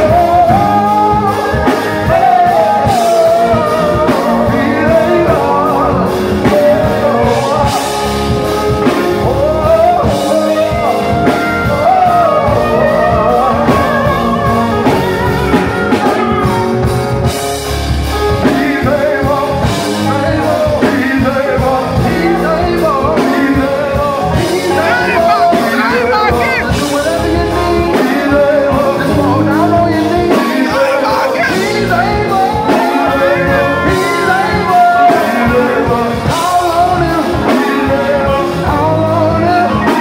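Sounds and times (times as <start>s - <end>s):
man singing into a microphone: 0.0s - 17.4s, 18.1s - 40.0s
bass guitar: 0.0s - 40.0s
drum kit: 0.0s - 40.0s
keyboard: 0.0s - 40.0s.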